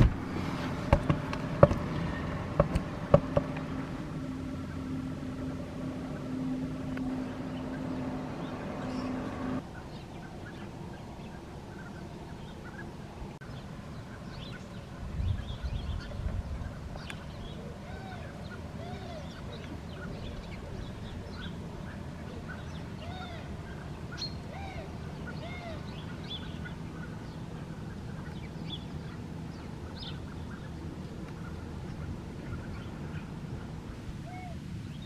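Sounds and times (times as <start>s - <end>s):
steady low rumble: 0.0s - 35.0s
many birds calling: 0.6s - 35.0s.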